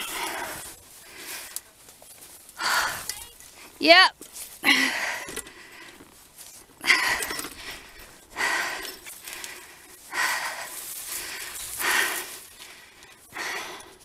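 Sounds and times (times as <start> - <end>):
person breathing hard: 0.0 - 1.8, 2.5 - 3.8, 4.5 - 14.0.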